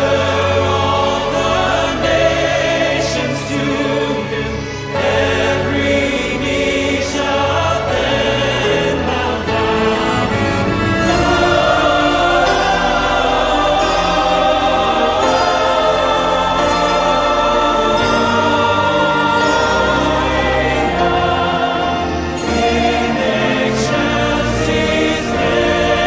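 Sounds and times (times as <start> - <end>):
choir singing: 0.0 - 26.0
musical backing: 0.0 - 26.0.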